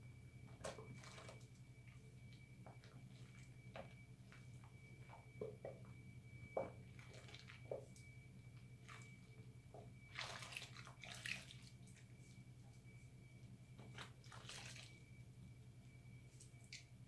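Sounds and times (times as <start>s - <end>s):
steady low hum: 0.0s - 17.0s
wet squishing of soapy hands: 0.5s - 5.7s, 6.5s - 15.4s, 16.2s - 17.0s.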